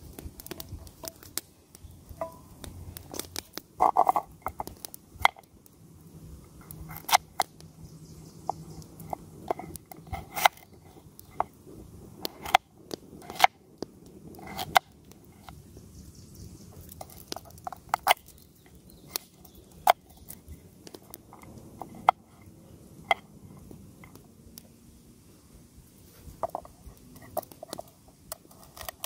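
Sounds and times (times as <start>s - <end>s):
wood campfire crackling: 0.0s - 29.0s.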